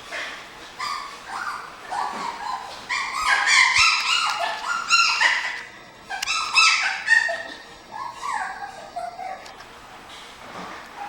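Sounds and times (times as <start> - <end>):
puppies whining and yipping: 0.8 - 9.6.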